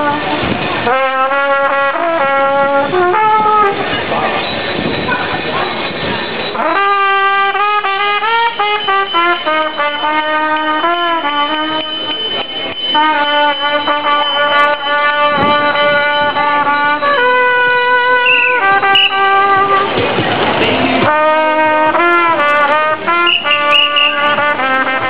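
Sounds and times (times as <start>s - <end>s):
brass instrument melody: 0.0s - 4.2s, 6.5s - 20.0s, 20.7s - 25.0s.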